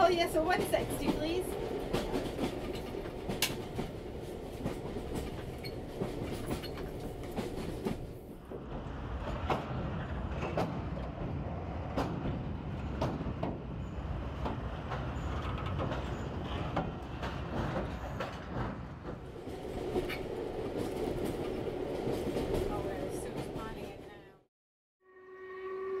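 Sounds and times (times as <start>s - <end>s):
train wheels clicking: 0.0s - 24.0s
railway carriage rumbling: 0.0s - 24.5s.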